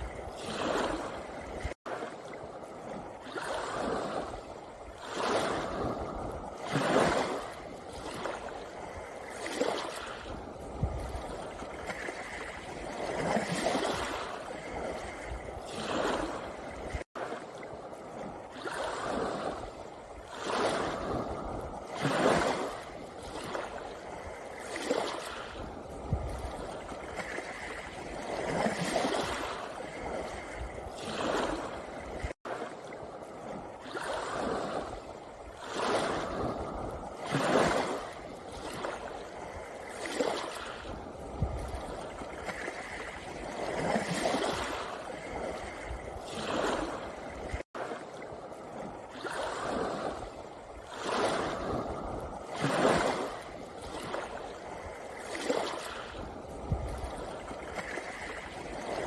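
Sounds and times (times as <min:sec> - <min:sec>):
waves on a pebble beach: 0:00.0 - 0:59.0.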